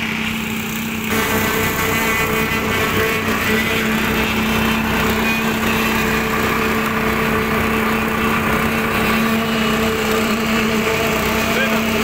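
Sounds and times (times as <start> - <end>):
concrete vibrator humming: 0.0 - 12.0.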